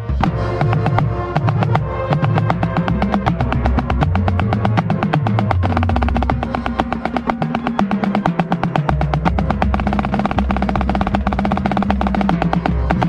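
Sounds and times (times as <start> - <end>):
marching band low notes: 0.0 - 13.0
rapid snare drum strokes: 0.0 - 13.0.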